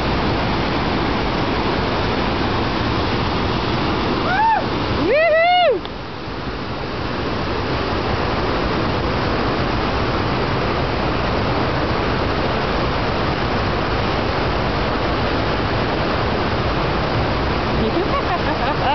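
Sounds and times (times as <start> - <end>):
waterfall: 0.0 - 18.9
whitewater rapids rushing: 0.0 - 18.9.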